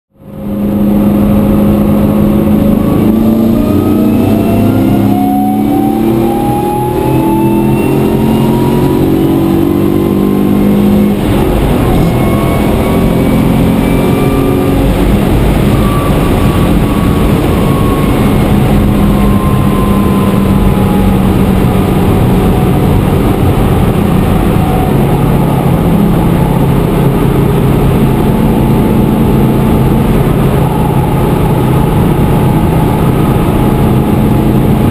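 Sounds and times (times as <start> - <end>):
car engine accelerating: 0.1 - 34.9
road noise: 0.1 - 34.9.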